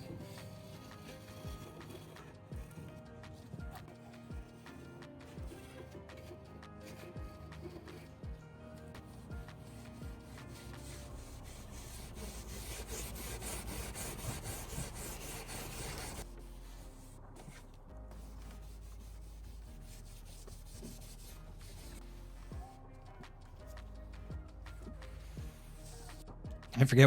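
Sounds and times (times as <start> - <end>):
hand scraping wood: 0.0 - 8.2, 8.9 - 22.5, 24.6 - 26.3
background music: 0.0 - 27.0.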